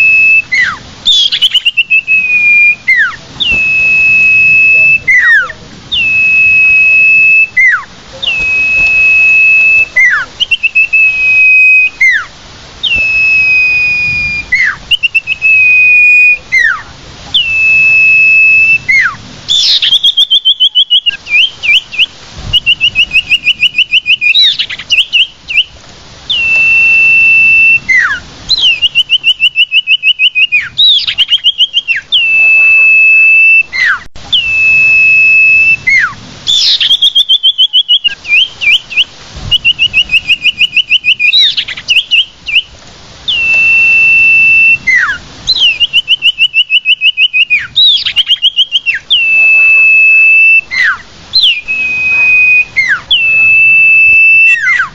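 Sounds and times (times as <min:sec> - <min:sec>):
long bird whistle: 0:00.0 - 0:42.7, 0:43.3 - 0:54.9.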